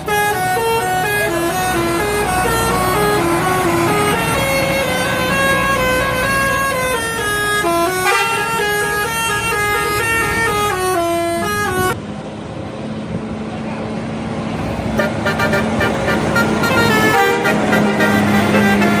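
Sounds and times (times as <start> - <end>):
bus horn playing tune: 0.0 - 12.0, 14.9 - 19.0
bus engine running: 0.0 - 19.0.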